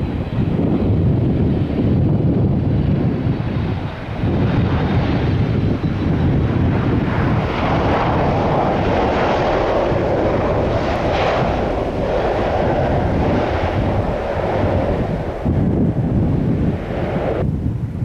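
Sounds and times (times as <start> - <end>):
jet airliner engine passing: 0.0 - 18.0
wind buffeting microphone: 0.0 - 18.0.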